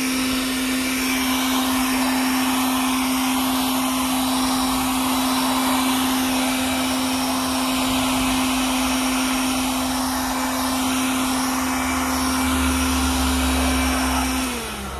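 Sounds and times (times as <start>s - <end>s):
air blower rushing air: 0.0s - 14.9s
fan motor hum: 0.0s - 14.9s.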